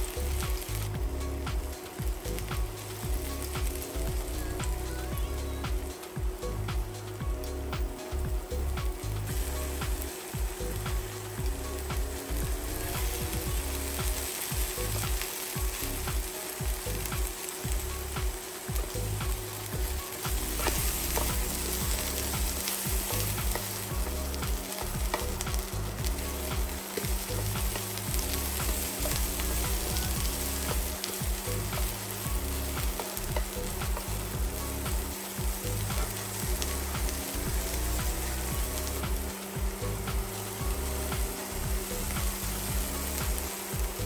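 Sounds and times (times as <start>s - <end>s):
vegetables sizzling in a frying pan: 0.0s - 44.0s.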